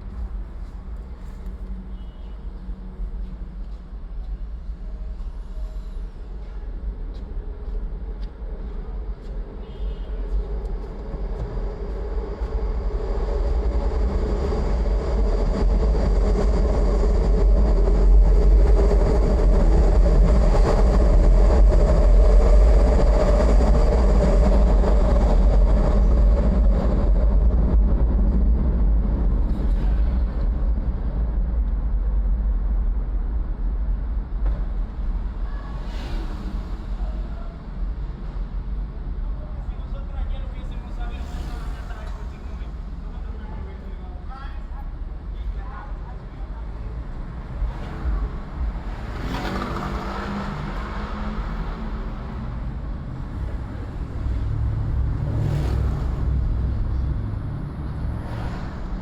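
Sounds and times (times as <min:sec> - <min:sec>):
steady low rumble: 0:00.0 - 0:49.2, 0:50.6 - 0:59.0
elevated train passing: 0:00.0 - 0:59.0.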